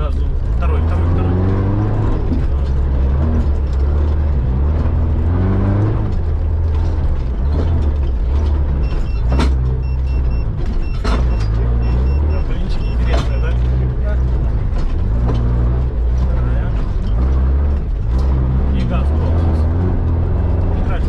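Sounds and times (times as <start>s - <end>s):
vehicle engine droning under load: 0.0s - 21.0s.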